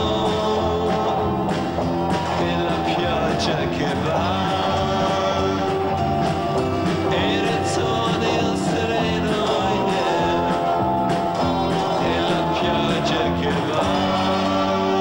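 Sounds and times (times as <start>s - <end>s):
electric guitars: 0.0s - 15.0s
voices singing together: 0.0s - 15.0s.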